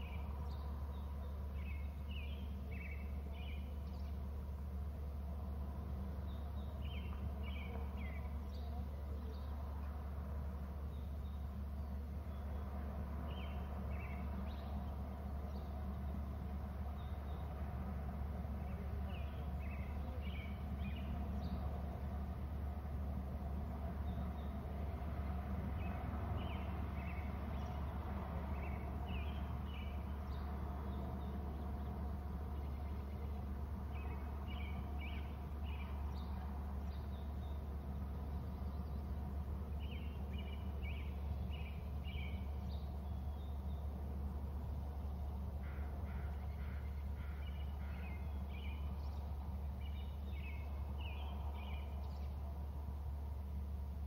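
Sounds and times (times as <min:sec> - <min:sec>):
birds chirping: 0:00.0 - 0:17.7, 0:18.4 - 0:22.3, 0:23.5 - 0:53.7.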